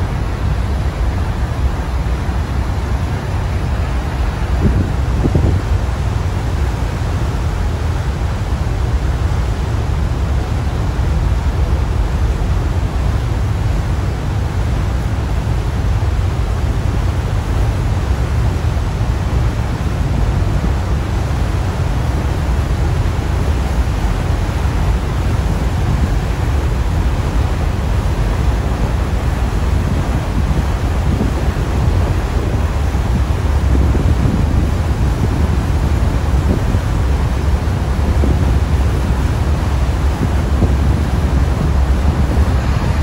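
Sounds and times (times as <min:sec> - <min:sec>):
churning wake water: 0:00.0 - 0:43.0
ferry engine rumble: 0:00.0 - 0:43.0
wind on microphone: 0:00.0 - 0:43.0.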